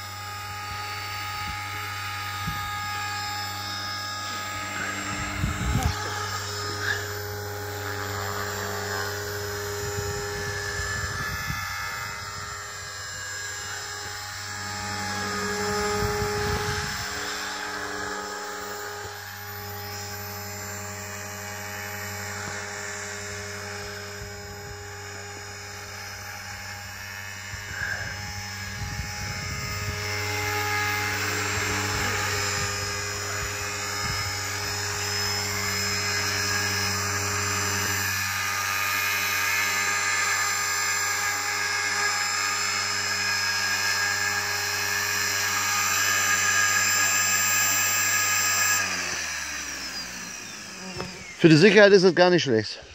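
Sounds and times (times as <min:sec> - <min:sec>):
rc helicopter motor whine: 0:00.0 - 0:52.9
rotor whirring: 0:00.0 - 0:52.9.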